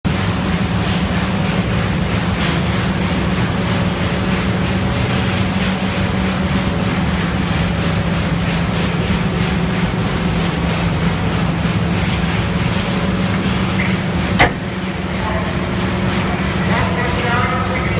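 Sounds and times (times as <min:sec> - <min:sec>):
baler machine running: 0:00.1 - 0:17.9
constant low hum: 0:00.1 - 0:17.9.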